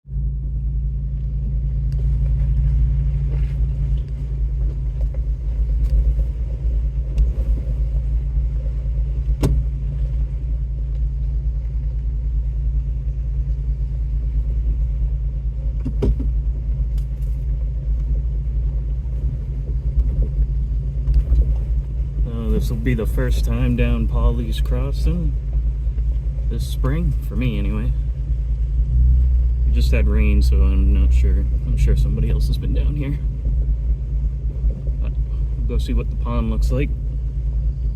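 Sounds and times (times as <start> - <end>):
vehicle engine rumbling: 0.0 - 37.9.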